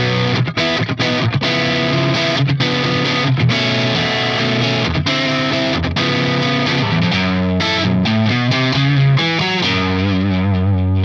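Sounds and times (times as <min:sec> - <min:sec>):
distorted electric guitar: 0:00.0 - 0:11.0.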